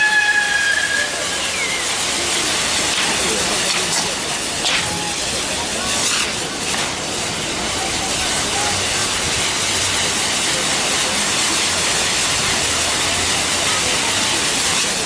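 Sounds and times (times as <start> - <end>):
fireworks spraying sparks hiss: 0.0 - 15.0.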